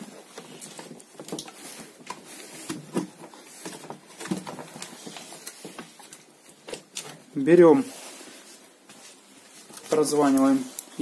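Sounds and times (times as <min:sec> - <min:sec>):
heavy cables shifting: 0:00.0 - 0:11.0.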